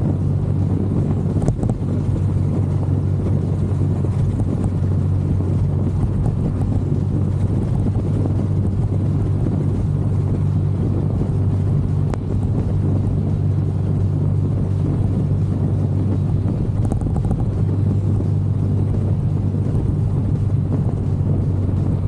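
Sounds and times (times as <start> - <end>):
scooter engine humming: 0.0 - 22.0
wind rushing over microphone: 0.0 - 22.0.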